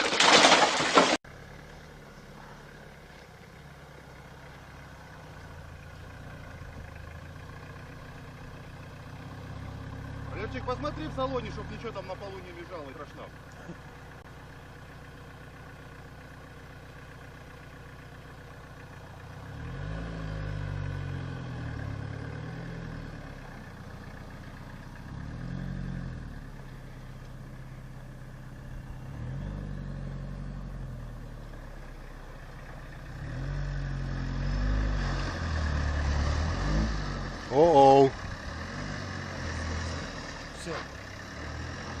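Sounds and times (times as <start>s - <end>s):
off-road vehicle engine revving: 1.2s - 16.6s, 17.4s - 42.0s.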